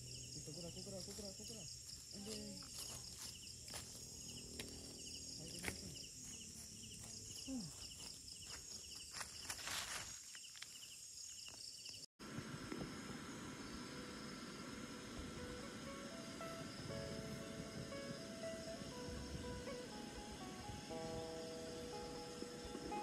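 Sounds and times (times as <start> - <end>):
high-pitched insect chorus: 0.0 - 23.0
regular insect chirp: 0.0 - 23.0.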